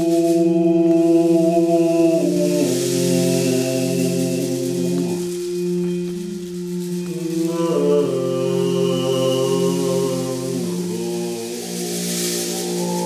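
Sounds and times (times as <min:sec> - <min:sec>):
low chanted drone: 0:00.0 - 0:13.0
singing bowl ringing: 0:01.2 - 0:13.0.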